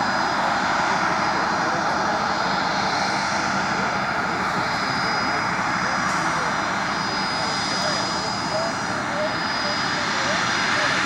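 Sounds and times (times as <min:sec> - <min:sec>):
helicopter engine and rotor noise: 0:00.0 - 0:11.0
high turbine whine: 0:00.0 - 0:11.0.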